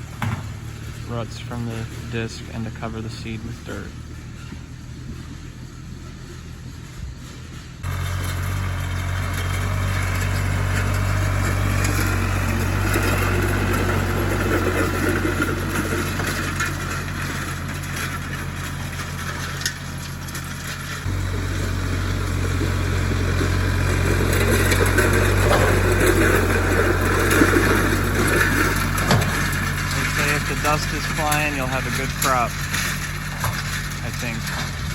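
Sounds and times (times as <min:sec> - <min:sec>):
drag scraping over soil: 0:00.0 - 0:34.9
tractor engine running under load: 0:00.0 - 0:34.9.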